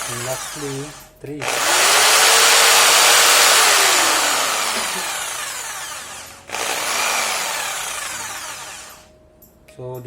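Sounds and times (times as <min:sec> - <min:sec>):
jigsaw motor running: 0:00.0 - 0:09.1.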